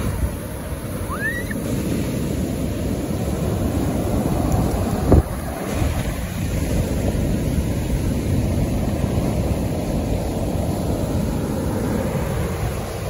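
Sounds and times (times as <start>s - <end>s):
waves breaking on beach: 0.0s - 13.0s
wind buffeting microphone: 0.0s - 13.0s.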